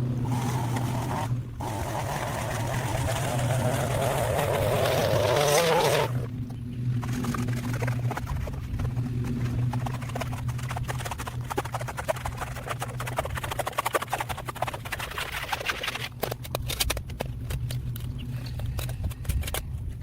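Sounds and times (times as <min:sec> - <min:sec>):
small engine running: 0:00.0 - 0:20.0
rapid clicks and ticks: 0:00.3 - 0:20.0.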